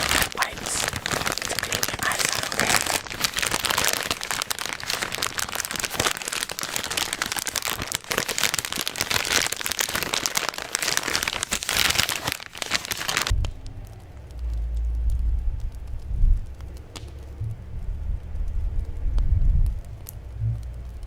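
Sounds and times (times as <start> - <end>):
wet wipes crinkling: 0.0 - 17.4.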